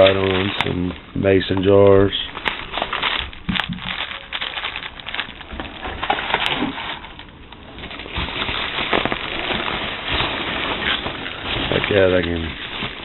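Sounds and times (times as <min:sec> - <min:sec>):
packing material rustling: 0:00.0 - 0:13.0.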